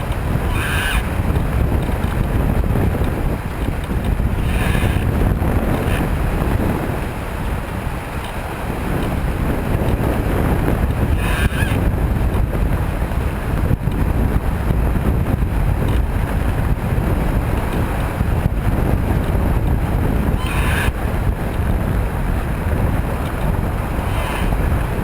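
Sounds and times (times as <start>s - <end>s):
water rushing along hull: 0.0s - 25.0s
wind buffeting microphone: 0.0s - 25.0s.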